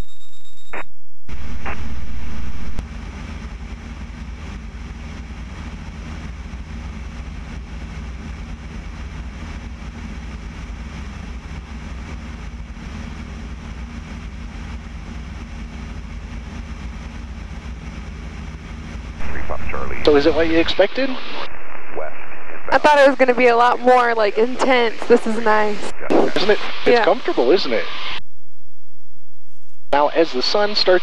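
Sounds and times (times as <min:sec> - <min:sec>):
propeller aircraft engine droning: 0:02.8 - 0:28.2.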